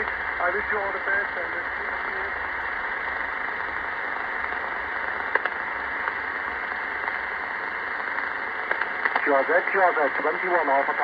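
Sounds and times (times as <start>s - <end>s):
faint static clicks: 0.0s - 11.0s
radio static hiss: 0.0s - 11.0s.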